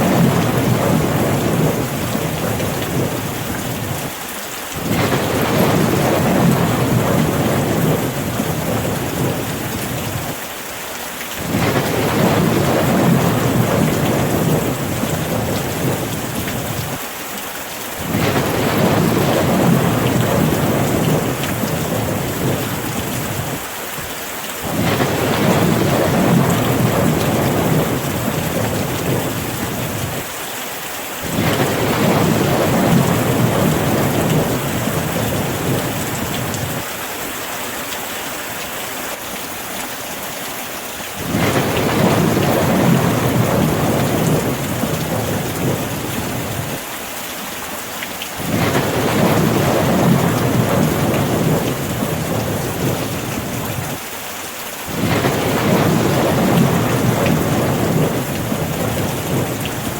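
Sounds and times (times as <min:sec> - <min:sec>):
rolling thunder rumbles: 0:00.0 - 0:04.1, 0:04.8 - 0:10.4, 0:11.4 - 0:17.0, 0:18.0 - 0:23.7, 0:24.6 - 0:30.3, 0:31.2 - 0:36.9, 0:41.2 - 0:46.8, 0:48.4 - 0:54.0, 0:54.9 - 0:59.9
rain hissing: 0:00.0 - 0:59.9.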